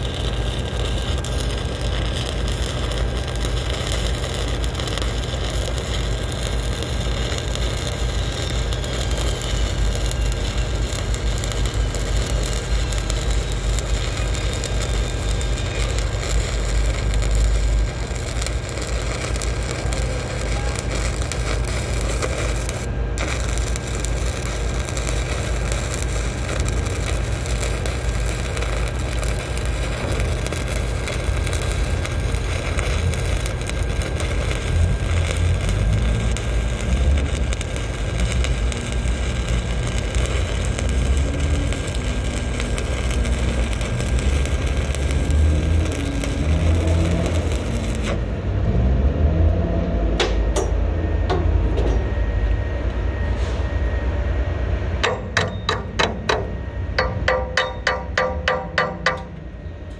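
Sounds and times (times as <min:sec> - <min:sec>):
welding arc crackling: 0:00.0 - 0:49.5, 0:55.0 - 0:59.4
low rumble: 0:00.0 - 0:59.9.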